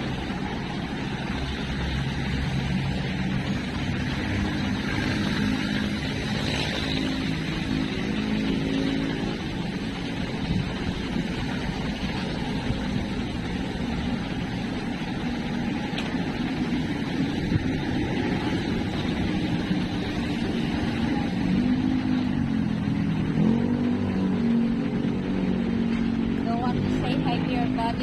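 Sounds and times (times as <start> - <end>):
passing vehicles rumble: 0.0 - 28.0.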